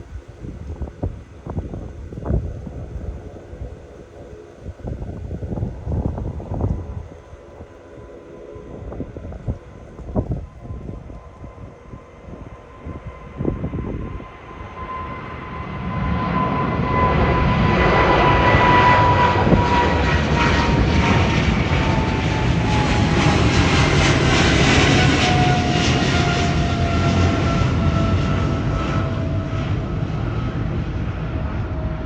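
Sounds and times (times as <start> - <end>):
jet engines at takeoff: 0.0 - 32.0
jet fan whine: 0.0 - 32.0
wind on microphone: 0.0 - 32.0.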